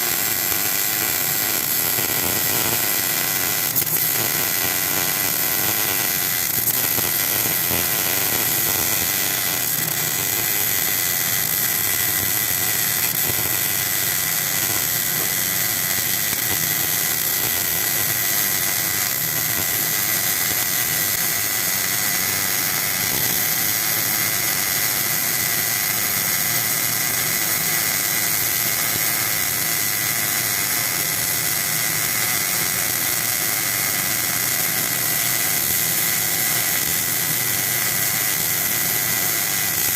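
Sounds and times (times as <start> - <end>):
welder hissing and whining: 0.0 - 39.9.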